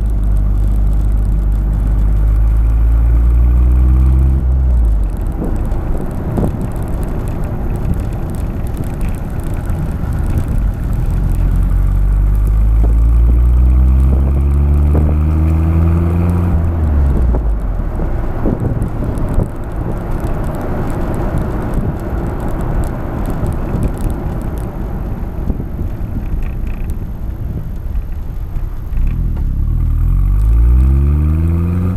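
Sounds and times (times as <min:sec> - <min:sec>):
car exhaust under acceleration: 0:00.0 - 0:31.9
car rolling rumble: 0:00.0 - 0:31.9.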